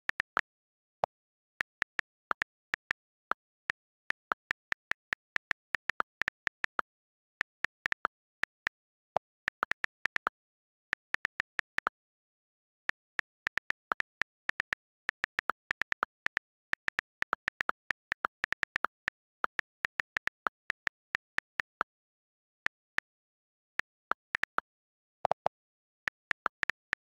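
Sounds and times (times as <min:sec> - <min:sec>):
on-screen keyboard clicks: 0:00.1 - 0:27.0.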